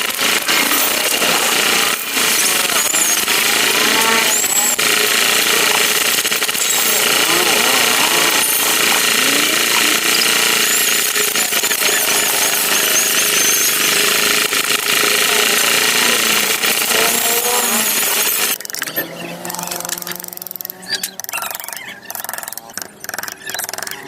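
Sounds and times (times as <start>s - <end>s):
power tool carving wood: 0.0s - 21.3s.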